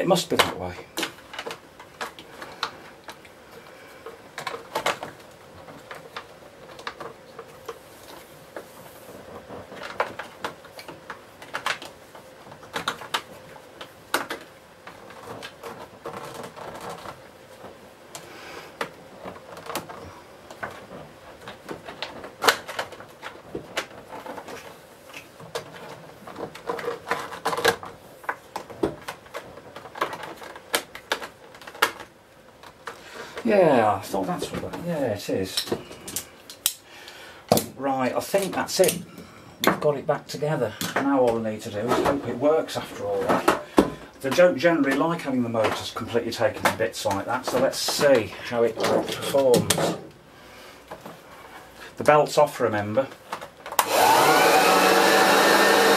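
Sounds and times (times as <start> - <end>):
hands handling plastic parts: 0.0 - 54.2.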